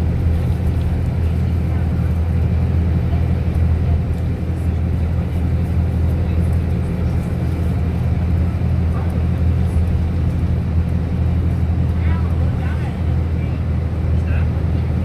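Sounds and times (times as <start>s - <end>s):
vehicle driving at speed: 0.0s - 15.0s.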